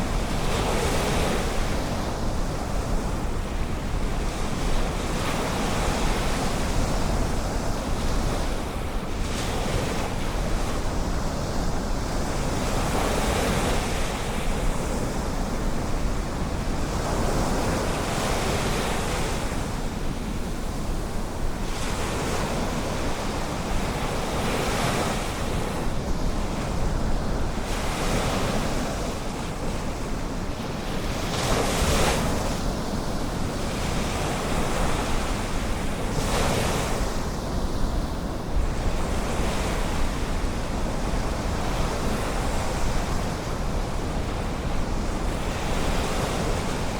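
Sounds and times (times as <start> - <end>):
wind rumble on microphone: 0.0 - 46.9.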